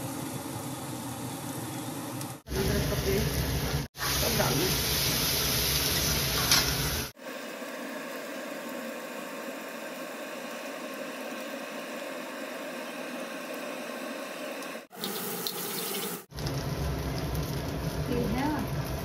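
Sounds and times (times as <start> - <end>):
water running from tap: 0.1 - 7.1, 9.9 - 19.0.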